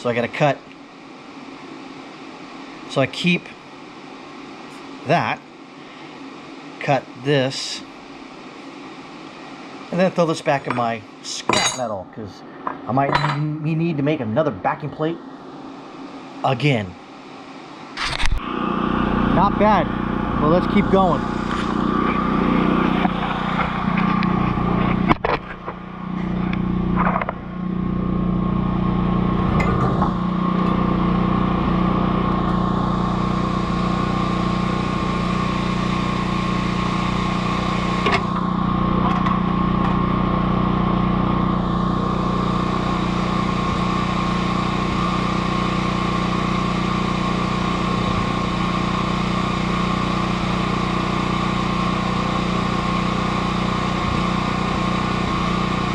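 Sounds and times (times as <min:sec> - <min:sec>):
machine drone: 0:00.0 - 0:55.9.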